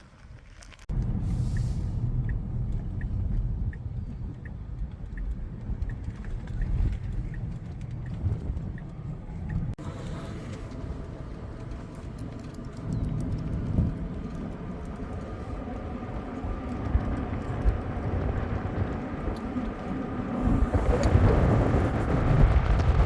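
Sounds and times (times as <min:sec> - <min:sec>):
road and tyre rumble: 0:00.0 - 0:23.0.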